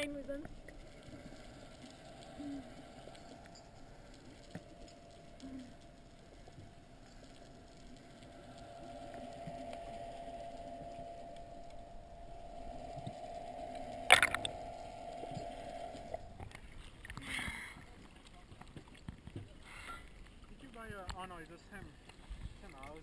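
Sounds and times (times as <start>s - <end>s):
boat engine hum underwater: 0.0s - 20.8s
water splashing: 0.0s - 23.0s.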